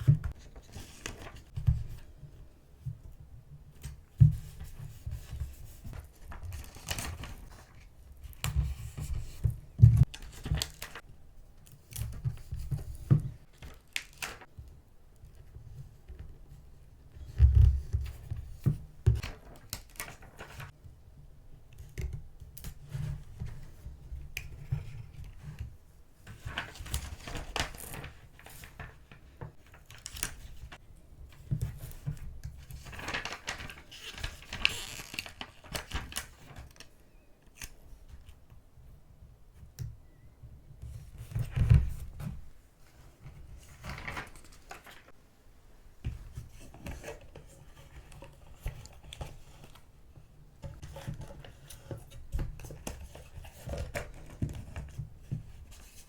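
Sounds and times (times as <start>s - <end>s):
paper rustling and crinkling: 0.0s - 3.0s, 3.7s - 11.1s, 11.7s - 14.5s, 15.4s - 20.7s, 22.8s - 38.4s, 40.8s - 45.2s, 46.0s - 50.0s, 50.6s - 56.0s.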